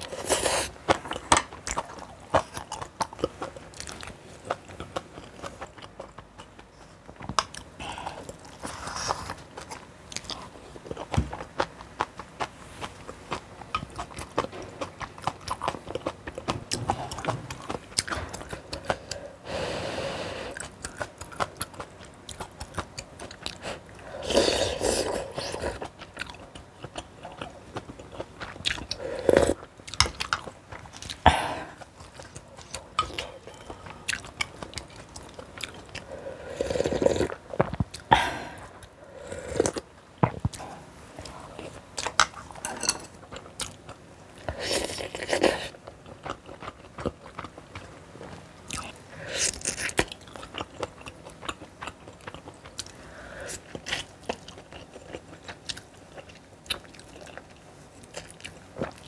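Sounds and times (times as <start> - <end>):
person chewing and crunching: 0.0 - 59.0.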